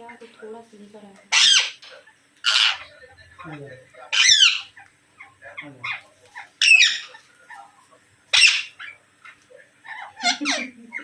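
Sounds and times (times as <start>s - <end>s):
parrots screeching: 1.3s - 7.7s, 8.3s - 11.0s.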